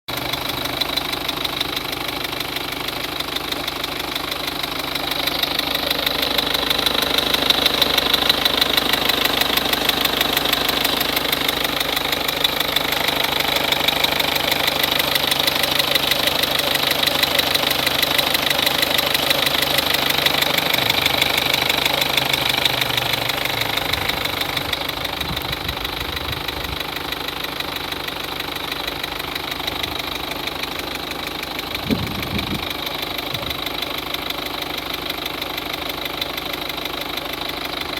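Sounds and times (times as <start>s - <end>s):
diesel engine clatter: 0.0s - 37.9s
fast regular engine ticking: 0.0s - 37.9s.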